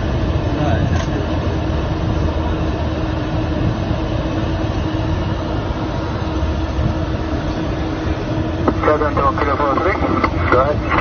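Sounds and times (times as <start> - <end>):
constant hum: 0.0 - 11.0
road and wind noise in car: 0.0 - 11.0.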